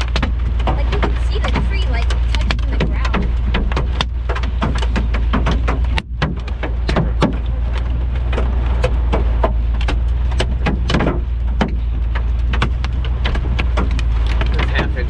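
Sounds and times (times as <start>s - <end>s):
hailstones hitting a car: 0.0s - 15.0s
steady low rumble: 0.0s - 15.0s.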